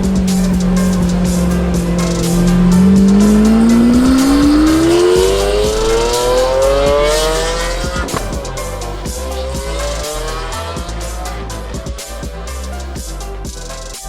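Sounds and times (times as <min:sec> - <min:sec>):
car engine accelerating hard: 0:00.0 - 0:12.5
background music: 0:00.0 - 0:14.0.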